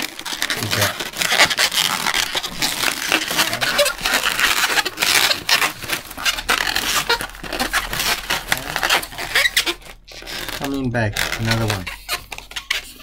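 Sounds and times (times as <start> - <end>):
balloons rubbing and squeaking: 0.0 - 13.0.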